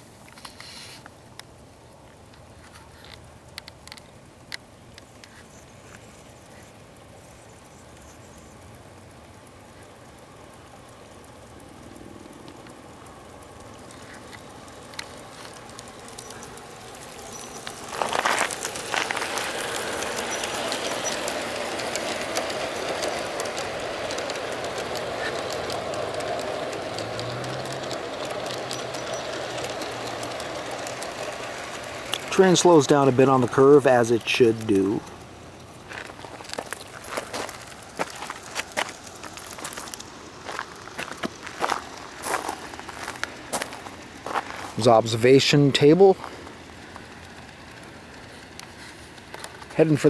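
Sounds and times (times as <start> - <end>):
model train rolling on track: 0.0 - 50.0
wheels clicking over rail joints: 0.0 - 50.0.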